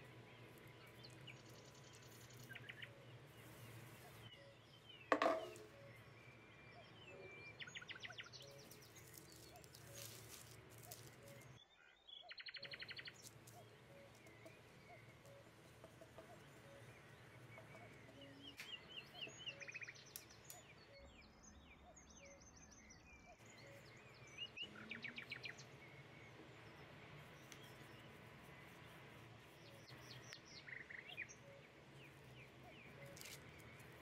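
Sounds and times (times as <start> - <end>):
small birds chirping and trilling: 0.0 - 34.0.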